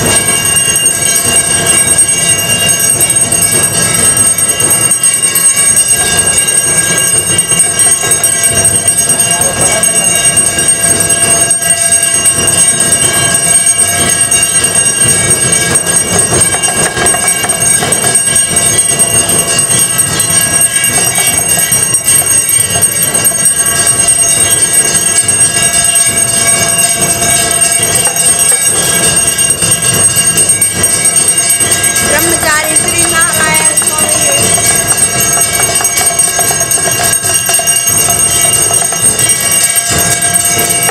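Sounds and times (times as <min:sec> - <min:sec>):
bells ringing with metallic clanging: 0:00.0 - 0:40.9.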